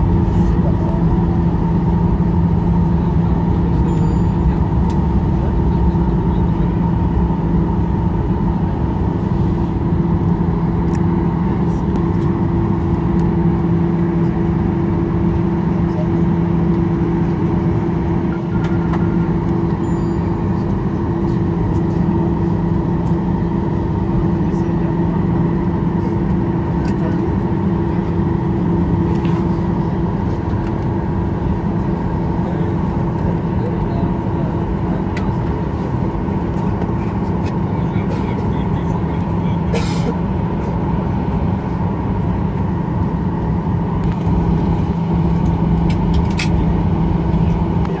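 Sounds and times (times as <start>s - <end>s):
jet engines humming: 0.0s - 48.0s
low runway rumble: 0.0s - 48.0s.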